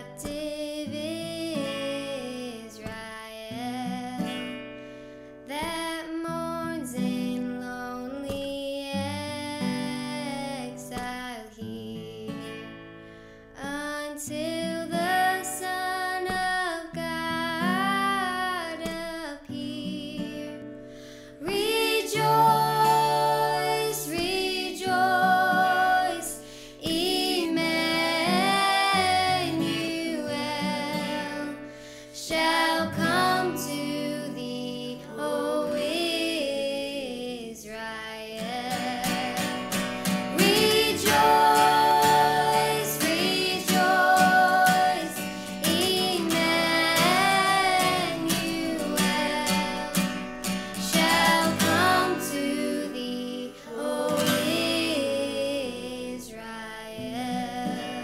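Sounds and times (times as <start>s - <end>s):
woman singing: 0.0s - 4.6s, 5.5s - 12.8s, 13.6s - 58.0s
acoustic guitar: 0.0s - 58.0s.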